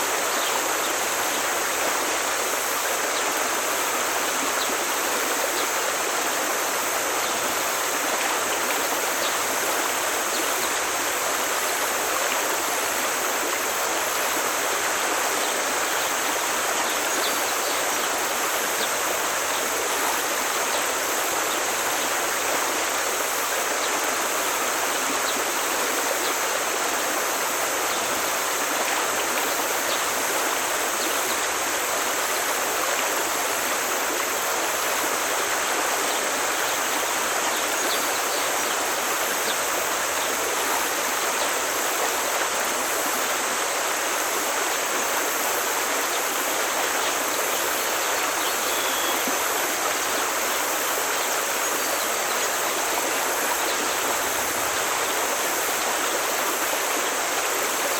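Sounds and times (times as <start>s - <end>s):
stream running water: 0.0s - 57.9s.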